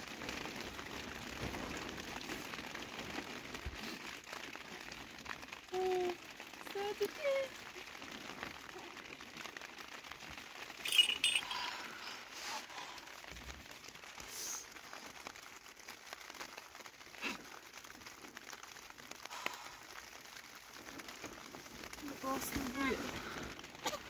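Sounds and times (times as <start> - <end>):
cloth rustling and crinkling: 0.0 - 24.0.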